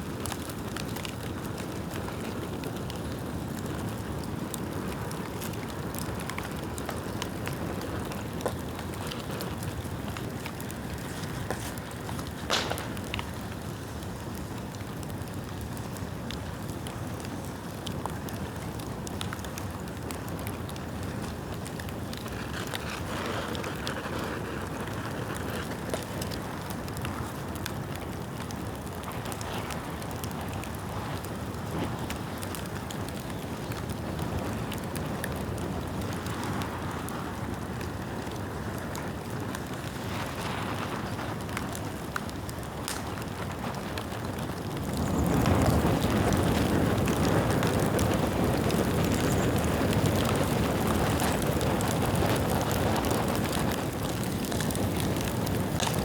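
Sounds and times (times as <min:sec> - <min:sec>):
bonfire flames rushing: 0:00.0 - 0:56.0
crackles and pops of burning bamboo: 0:00.0 - 0:56.0.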